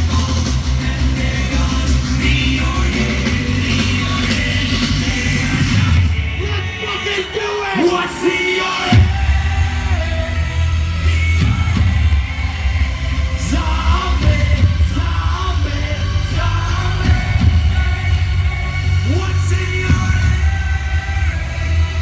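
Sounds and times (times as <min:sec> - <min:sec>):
deep bass: 0:00.0 - 0:06.7, 0:09.0 - 0:22.0
person singing: 0:00.0 - 0:22.0
pop-dance music over sound system: 0:00.0 - 0:22.0.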